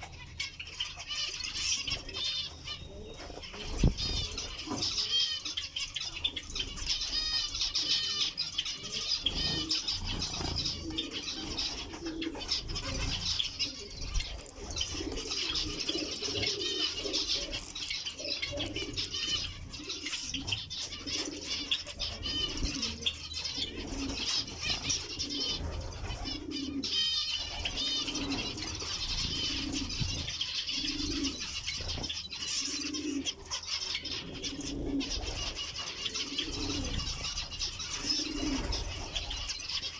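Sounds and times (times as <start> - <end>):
finches calling: 0.0 - 39.9
low repeated bird calls: 0.0 - 39.9.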